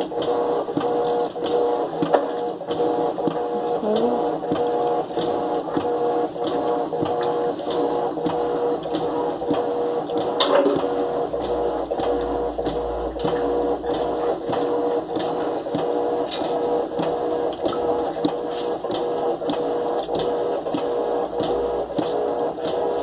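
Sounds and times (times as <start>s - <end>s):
washing machine knocking: 0.0s - 23.0s
washing machine motor hum: 0.0s - 23.0s.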